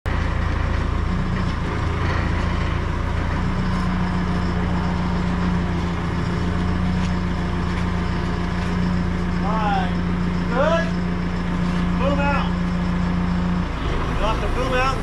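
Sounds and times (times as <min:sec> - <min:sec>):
diesel engine running at low revs: 0:00.0 - 0:15.0.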